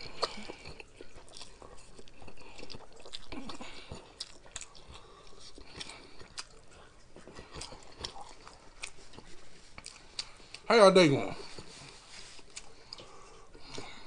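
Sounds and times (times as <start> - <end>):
person chewing noodles: 0.0 - 10.7, 11.3 - 14.0.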